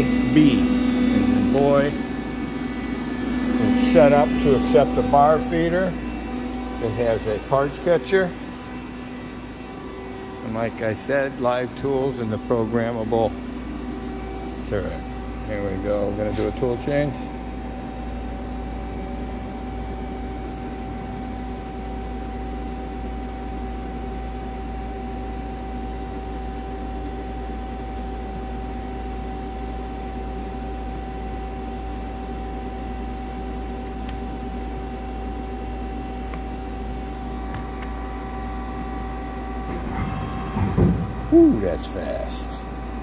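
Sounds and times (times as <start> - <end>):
lathe humming with high whine: 0.0 - 43.0.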